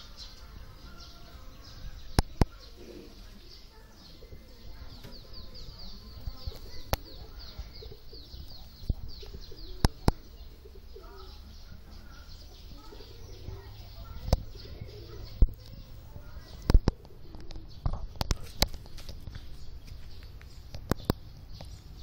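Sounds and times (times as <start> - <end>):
pigeons cooing: 0.0 - 19.9
bird chirping in falling notes: 0.0 - 22.0.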